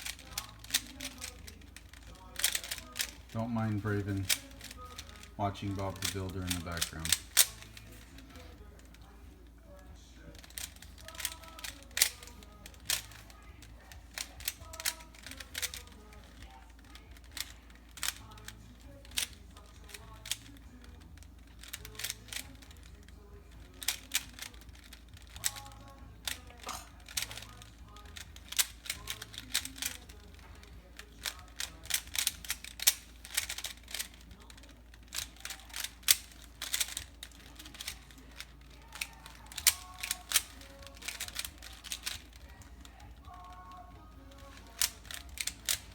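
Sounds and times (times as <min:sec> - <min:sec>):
faint tv voices and music: 0:00.0 - 0:45.9
puzzle cube clacking: 0:00.0 - 0:45.9.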